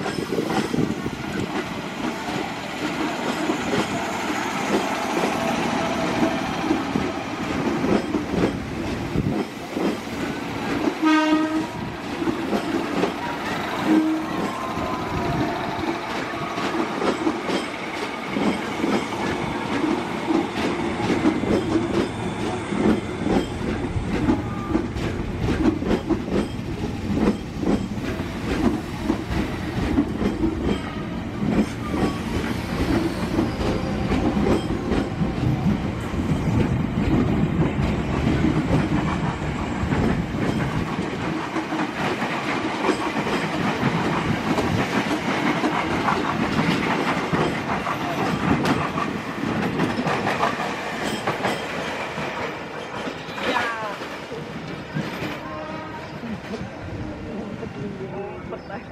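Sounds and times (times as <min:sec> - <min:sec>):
electric train passing: 0:00.0 - 0:58.9.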